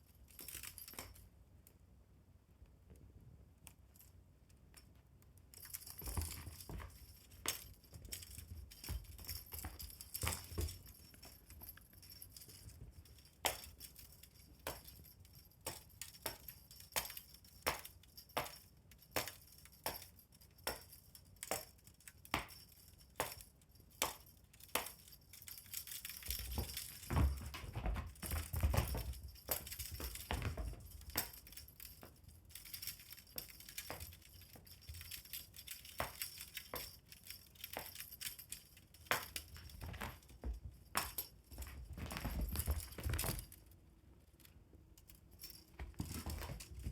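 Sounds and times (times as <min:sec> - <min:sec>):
toy clinks and knocks: 0:00.0 - 0:01.4, 0:03.7 - 0:46.9.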